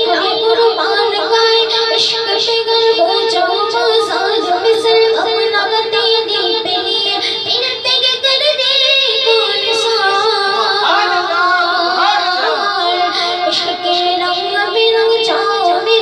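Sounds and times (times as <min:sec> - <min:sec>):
boy singing into a microphone: 0:00.0 - 0:16.0.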